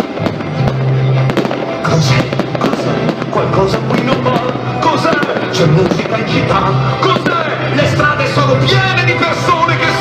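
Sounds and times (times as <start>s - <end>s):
fireworks popping and banging: 0.0s - 10.0s
music playing: 0.0s - 10.0s.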